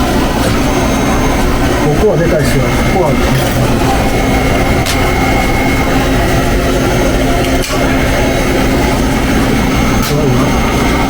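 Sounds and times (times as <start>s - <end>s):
machine roar with high whine: 0.0s - 11.0s.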